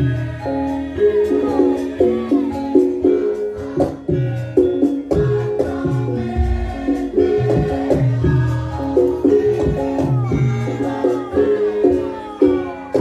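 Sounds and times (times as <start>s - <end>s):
gamelan music: 0.0s - 13.0s
hand drum with bending pitch: 1.2s - 13.0s.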